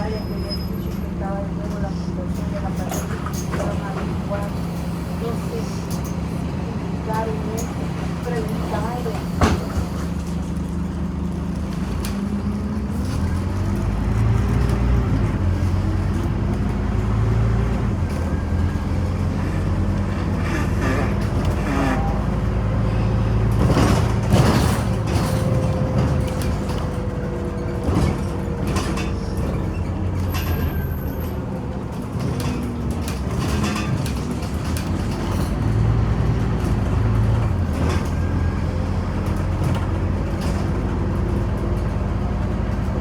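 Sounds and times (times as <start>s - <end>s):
bus engine humming: 0.0s - 43.0s
road noise: 0.0s - 43.0s.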